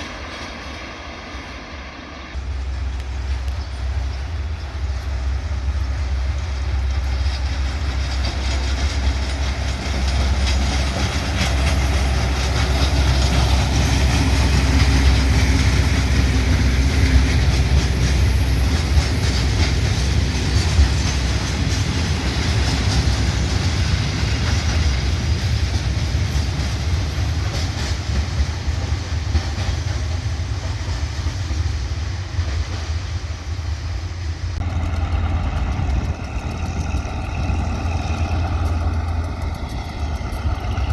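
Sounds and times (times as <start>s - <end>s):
train rumbling past: 0.0s - 40.9s
wheels clicking over rail joints: 2.4s - 33.1s, 34.5s - 40.9s.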